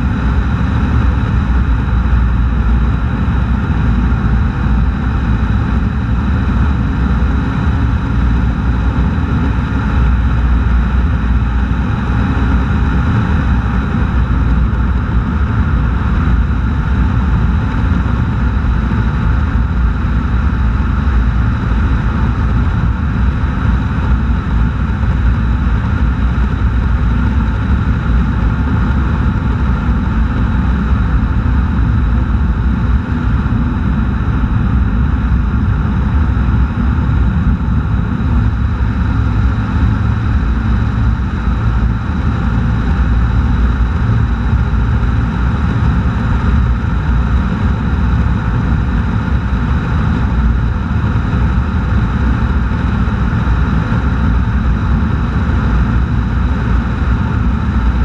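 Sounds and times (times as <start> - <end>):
road rumble: 0.0 - 58.0.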